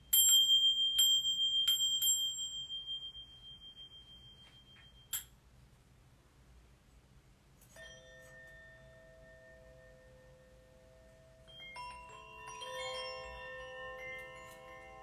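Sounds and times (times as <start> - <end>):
small bell high tone: 0.0 - 5.3, 7.7 - 15.0.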